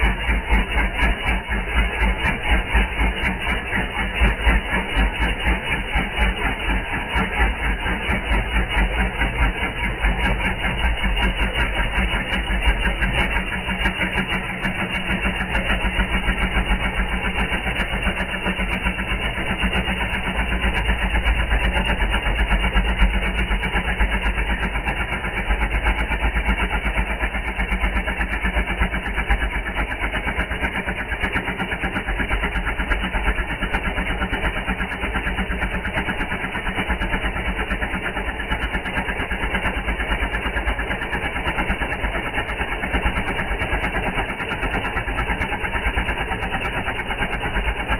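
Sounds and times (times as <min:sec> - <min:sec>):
tyre inflator pump chattering: 0:00.0 - 0:47.9.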